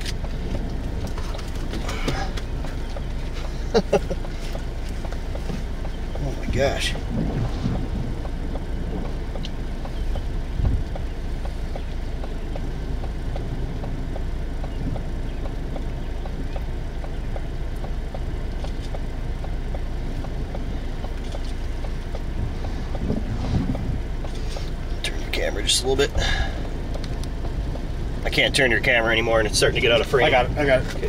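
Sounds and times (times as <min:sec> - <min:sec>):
low rumble of storm wind: 0:00.0 - 0:31.0
rain tapping: 0:00.0 - 0:31.0.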